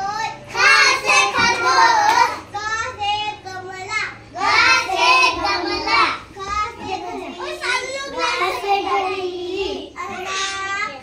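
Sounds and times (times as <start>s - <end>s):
girl chanting sing-song: 0.0s - 11.0s.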